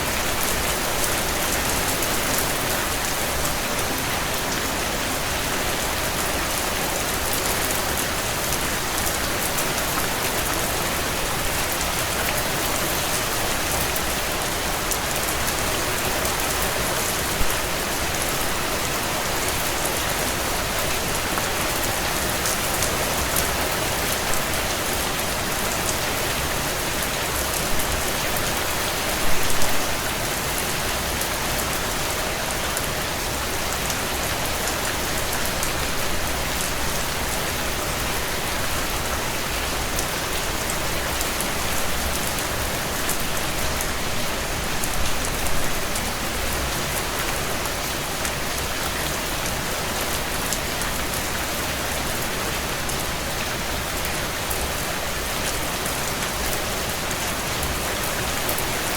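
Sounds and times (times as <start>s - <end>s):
heavy rain on window panes: 0.0s - 58.9s.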